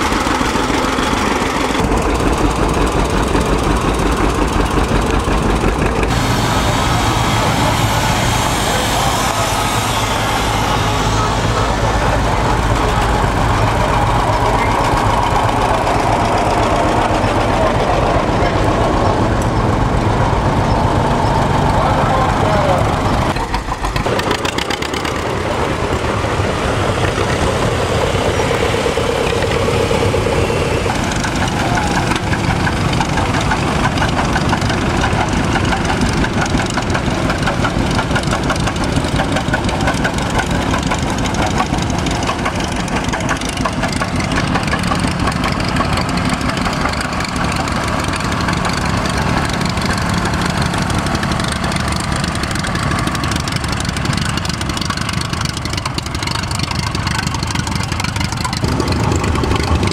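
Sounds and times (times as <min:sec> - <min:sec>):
tractor engines driving past: 0:00.0 - 0:59.9.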